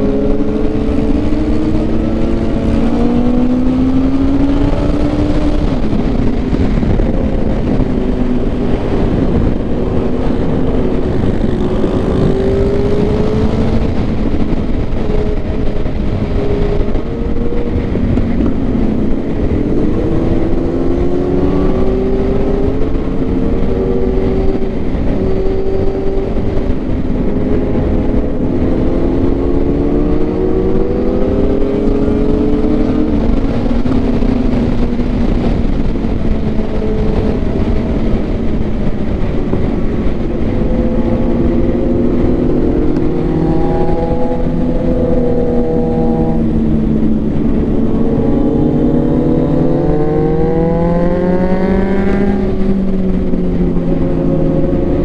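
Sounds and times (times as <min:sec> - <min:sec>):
motorcycle engine revving: 0:00.0 - 0:55.0
steady low rush: 0:00.0 - 0:55.0.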